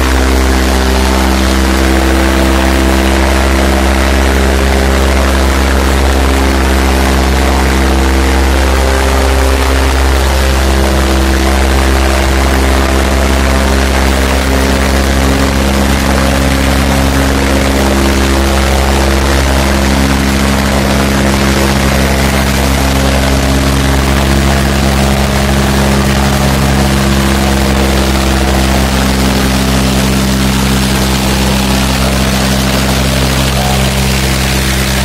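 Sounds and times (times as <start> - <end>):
tractor diesel engine droning: 0.0 - 35.0.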